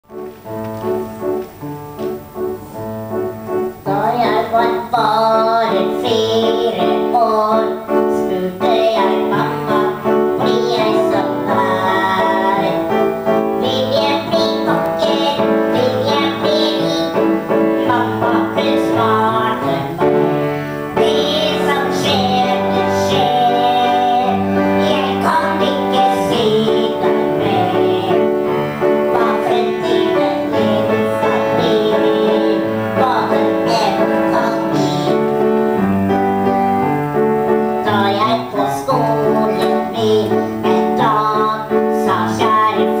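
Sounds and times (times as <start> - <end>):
keyboard accompaniment: 0.0 - 43.0
woman singing into a microphone: 3.8 - 35.5, 37.6 - 43.0.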